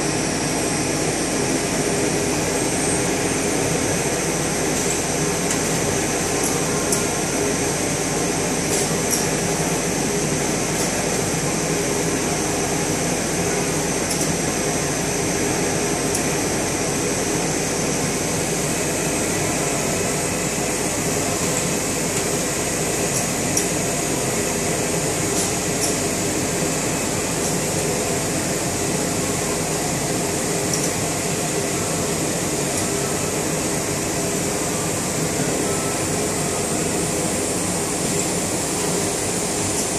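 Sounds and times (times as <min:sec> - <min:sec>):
machine humming with whine: 0:00.0 - 0:39.9.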